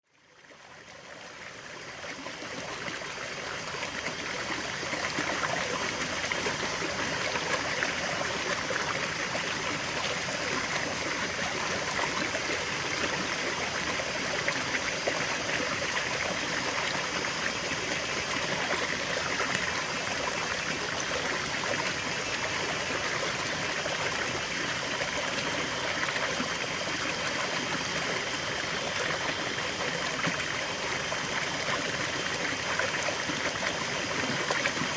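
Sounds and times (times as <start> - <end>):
stream babbling over stones: 0.3 - 34.9.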